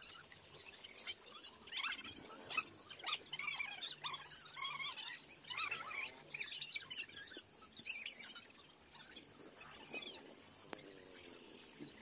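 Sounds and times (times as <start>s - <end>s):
high squeaky chirps: 0.0s - 12.0s.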